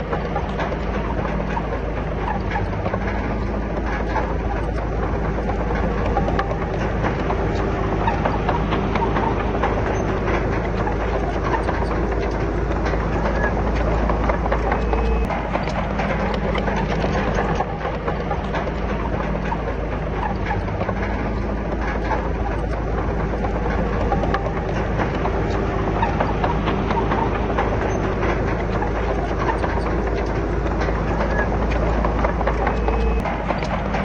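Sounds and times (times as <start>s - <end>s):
bulldozer diesel engine running: 0.0s - 34.0s
steel tracks clattering: 0.0s - 34.0s.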